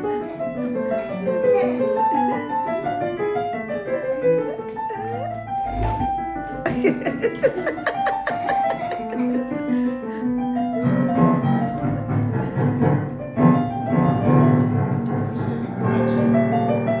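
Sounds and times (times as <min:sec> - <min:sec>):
low piano key clusters: 0:00.0 - 0:17.0
piano notes and chords: 0:00.0 - 0:17.0.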